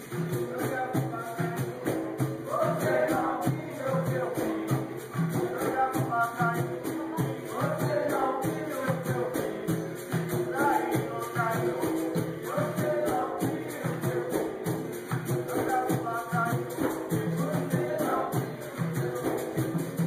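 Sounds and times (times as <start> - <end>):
berimbaus and shakers: 0.0 - 20.0
hand drum rhythm: 0.0 - 20.0
person singing: 0.0 - 20.0
tambourine: 0.0 - 20.0.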